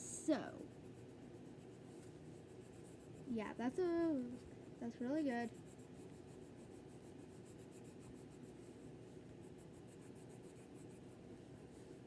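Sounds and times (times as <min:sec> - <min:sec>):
pencil scratching on paper: 0:00.5 - 0:12.0.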